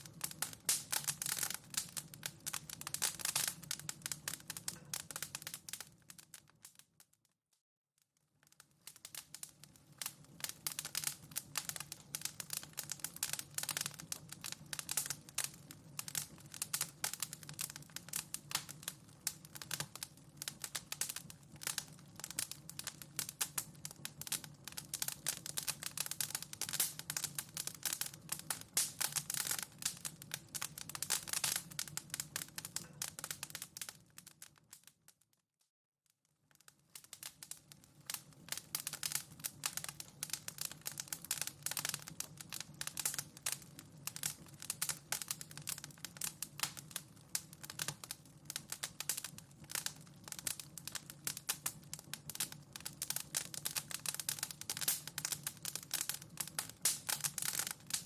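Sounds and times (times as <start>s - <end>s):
wood fire crackling: 0.0s - 7.1s, 8.4s - 35.2s, 36.5s - 58.0s.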